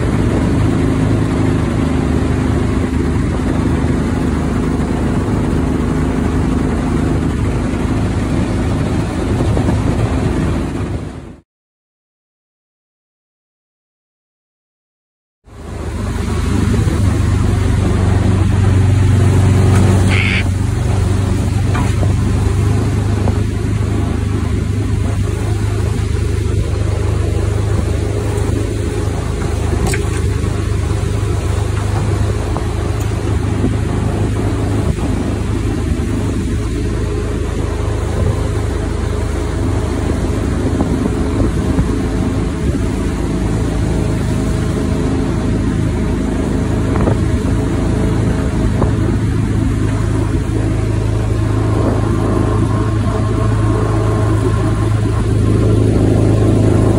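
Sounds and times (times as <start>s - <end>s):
boat engine droning: 0.0s - 11.4s, 15.5s - 56.9s.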